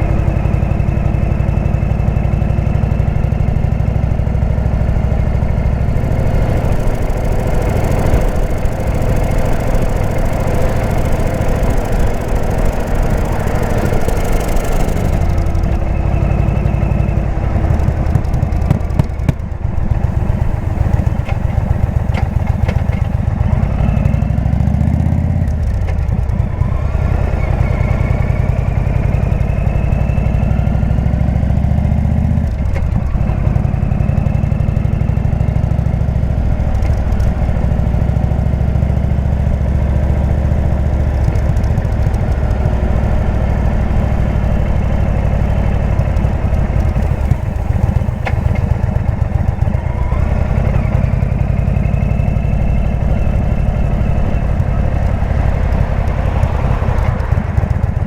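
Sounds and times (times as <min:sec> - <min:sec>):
rushing wind: 0:00.0 - 0:31.3, 0:32.4 - 0:58.0
motorcycle engine running: 0:00.0 - 0:58.0.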